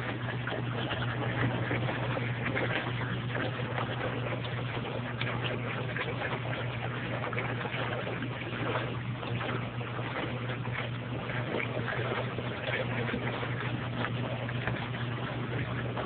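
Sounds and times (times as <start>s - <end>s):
motor humming: 0.0s - 16.0s
water churning and sloshing: 0.0s - 16.0s.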